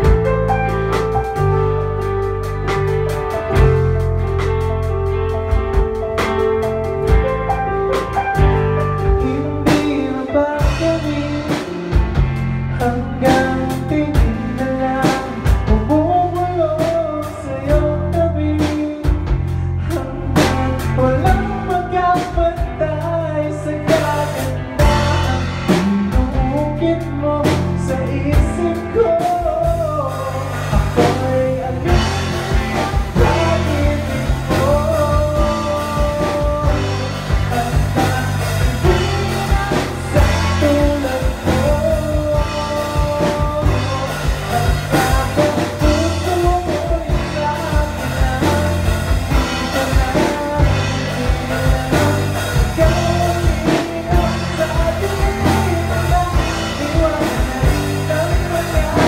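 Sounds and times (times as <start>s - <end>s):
drum kit beat: 0.0s - 59.0s
electric bass: 0.0s - 59.0s.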